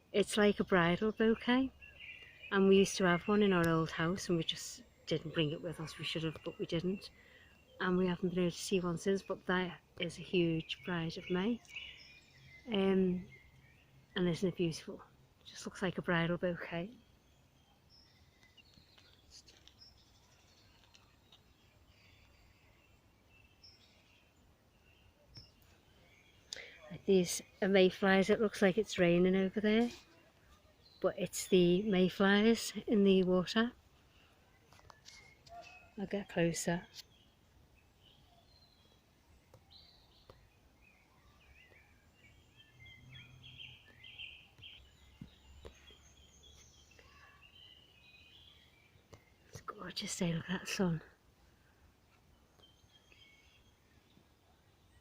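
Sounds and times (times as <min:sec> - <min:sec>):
distant bird chirps: 0:00.0 - 0:55.0.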